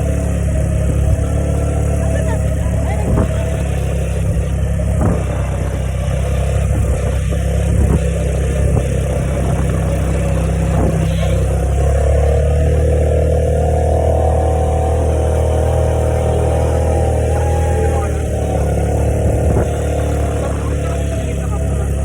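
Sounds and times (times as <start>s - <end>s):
motorbike engine rumbling: 0.0s - 22.0s.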